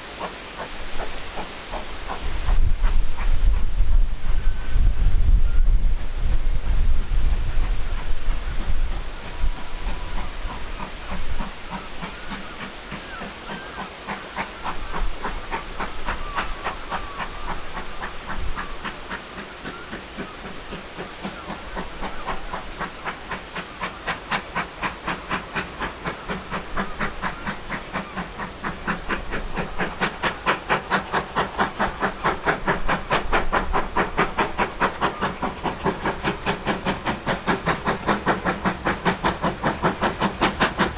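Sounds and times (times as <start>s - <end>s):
steam hiss: 0.0s - 40.9s
steam locomotive chuffing: 0.0s - 40.9s.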